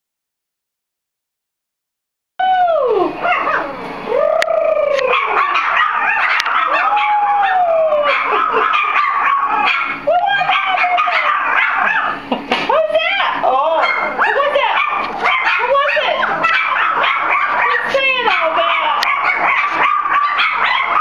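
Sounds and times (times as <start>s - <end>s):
puppies howling: 2.4s - 21.0s
puppies yipping and whining: 3.1s - 12.4s, 13.0s - 21.0s.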